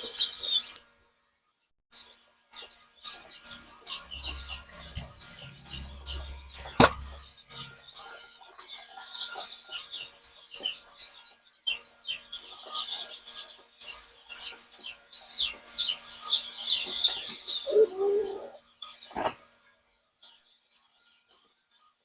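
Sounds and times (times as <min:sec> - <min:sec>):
chicks peeping: 0:00.0 - 0:00.8, 0:02.0 - 0:22.0.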